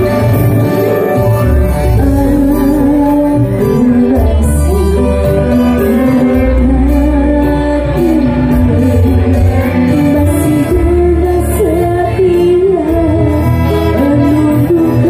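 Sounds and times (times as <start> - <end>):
electric guitar: 0.0 - 15.0
electric keyboard: 0.0 - 15.0
heavy bass line: 0.0 - 15.0
woman singing: 0.0 - 15.0.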